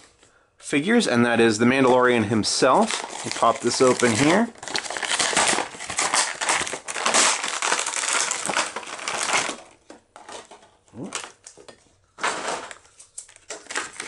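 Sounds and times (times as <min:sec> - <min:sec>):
plastic packaging crackling: 0:02.5 - 0:14.0.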